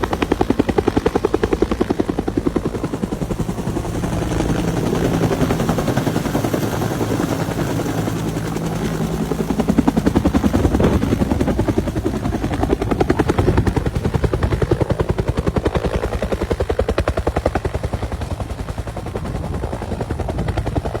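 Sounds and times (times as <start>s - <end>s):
helicopter rotor chopping: 0.0s - 21.0s.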